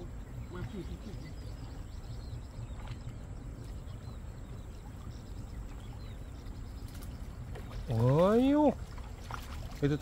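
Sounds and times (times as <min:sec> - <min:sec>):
faint bird chirps: 0:00.0 - 0:08.8
water sloshing: 0:00.0 - 0:10.0.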